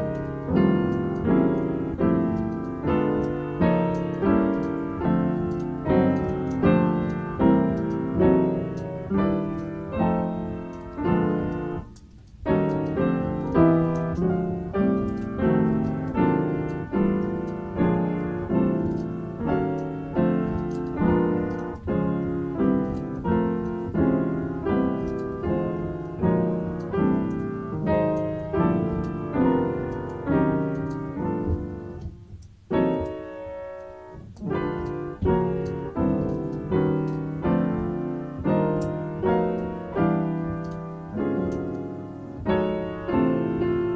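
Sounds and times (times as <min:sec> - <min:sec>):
solo piano: 0:00.0 - 0:43.9.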